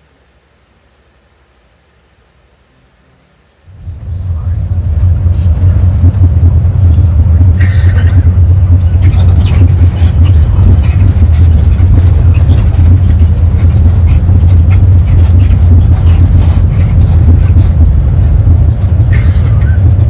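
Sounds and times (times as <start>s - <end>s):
vehicle cabin road rumble: 0.0s - 20.0s.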